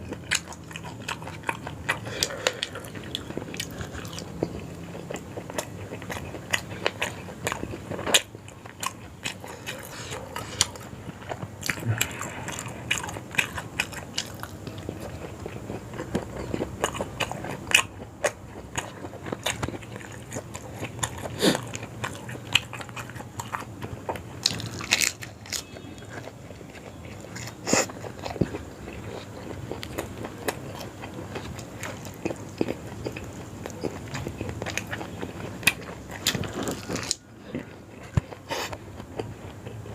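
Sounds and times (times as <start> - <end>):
biting and chewing: 0.0 - 39.9.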